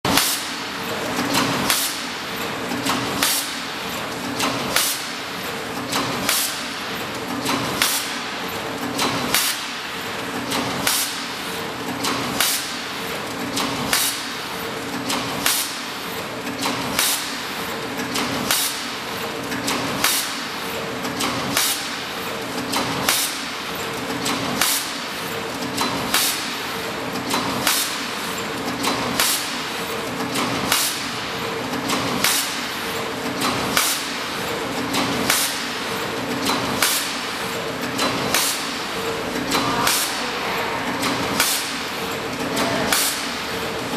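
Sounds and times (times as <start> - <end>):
steady mechanical noise: 0.0 - 43.9
machine clacking: 0.1 - 43.9.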